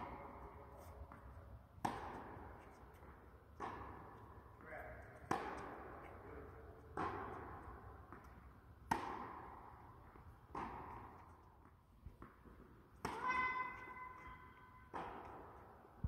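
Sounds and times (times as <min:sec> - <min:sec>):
tennis ball racket hits: 0:00.0 - 0:15.8
tennis ball bounces: 0:00.0 - 0:16.0.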